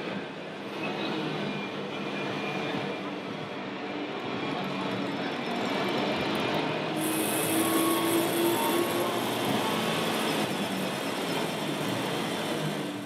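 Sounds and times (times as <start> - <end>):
busy hall crowd din: 0.0 - 13.0.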